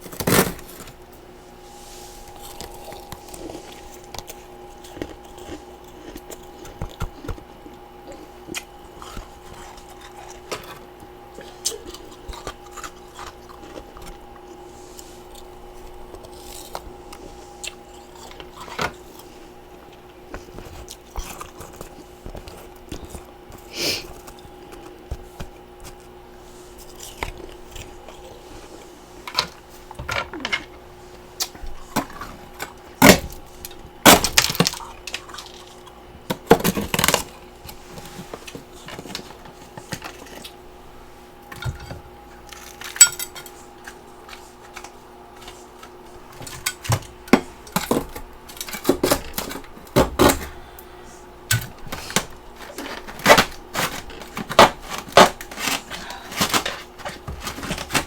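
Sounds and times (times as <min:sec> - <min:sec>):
frost crunching being chewed: 0:00.0 - 0:58.0
steady hum: 0:00.0 - 0:58.0.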